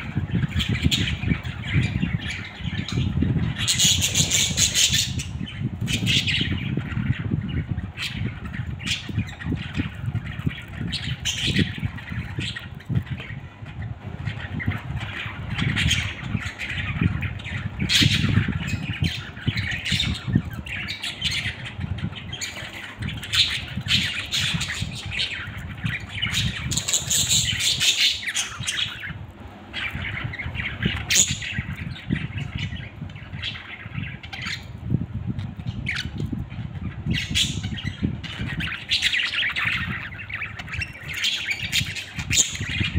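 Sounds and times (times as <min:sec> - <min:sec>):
budgerigars chattering: 0:00.0 - 0:34.8, 0:35.6 - 0:42.9.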